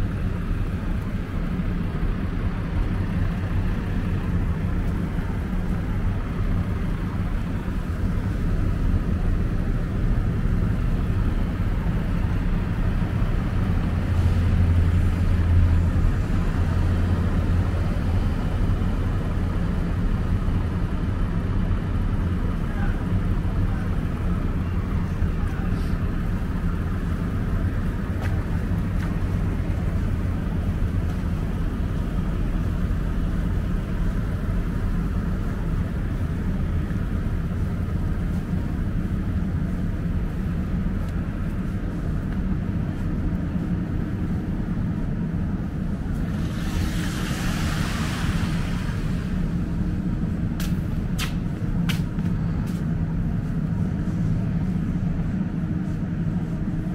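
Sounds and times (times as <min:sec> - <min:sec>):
city traffic rumble: 0:00.0 - 0:56.9.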